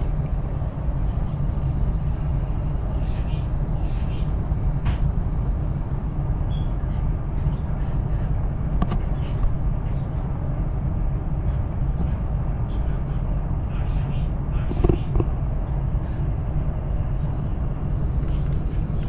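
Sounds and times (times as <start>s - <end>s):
high-speed train rumbling: 0.0s - 19.0s.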